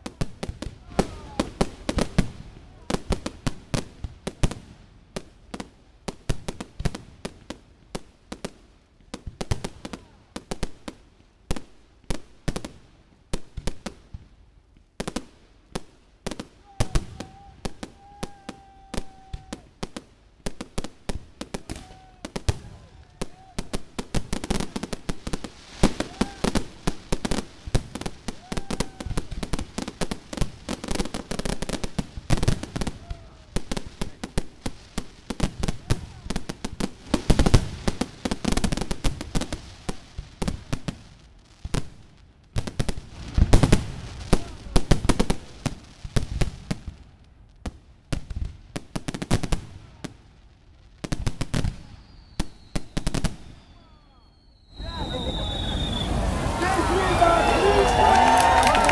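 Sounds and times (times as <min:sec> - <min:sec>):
fireworks bursting: 0:00.0 - 0:14.3, 0:14.9 - 0:50.2, 0:51.0 - 0:58.9.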